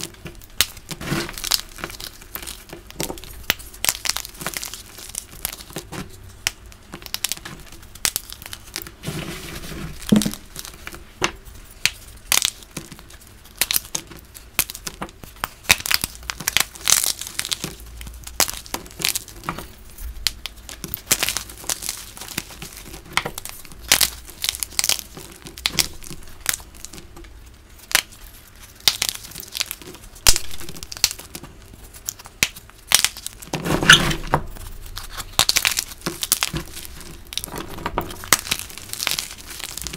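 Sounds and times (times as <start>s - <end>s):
hands pressing into broken chalk: 0.0s - 39.9s.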